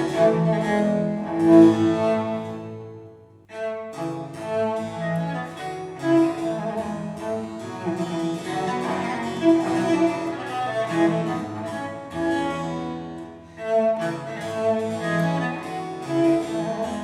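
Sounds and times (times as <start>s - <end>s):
cello and strings music: 0.0s - 17.0s.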